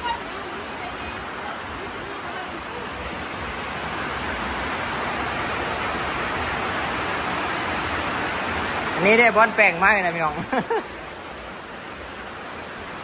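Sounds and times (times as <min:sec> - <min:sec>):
rain on a roof: 0:00.0 - 0:13.0.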